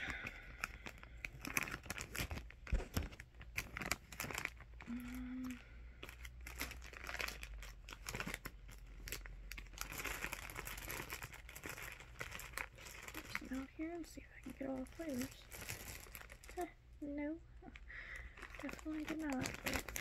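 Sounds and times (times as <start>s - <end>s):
plastic bag crinkling and tearing: 0.0s - 16.8s, 17.7s - 20.0s.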